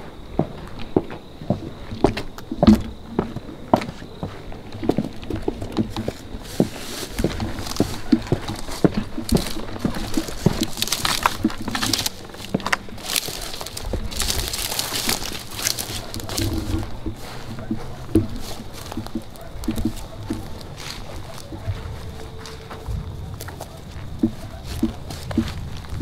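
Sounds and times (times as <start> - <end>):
footsteps through dry grass: 0.0 - 26.0.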